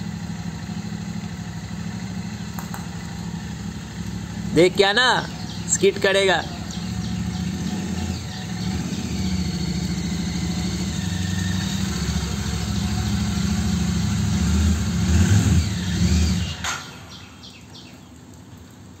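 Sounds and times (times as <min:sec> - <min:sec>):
motorcycle engine revving: 0:00.0 - 0:17.9.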